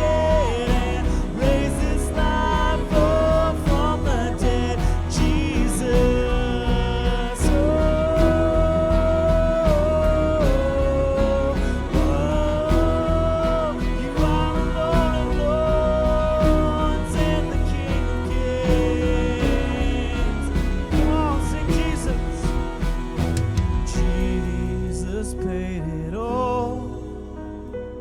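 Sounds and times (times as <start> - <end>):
regular drum beat: 0.0 - 25.0
bass: 0.0 - 28.0
worship band playing: 0.0 - 28.0.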